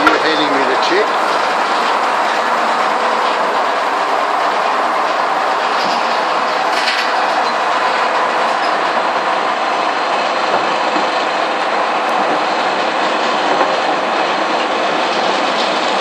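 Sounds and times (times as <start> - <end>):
saw carriage mechanical noise: 0.0 - 16.0.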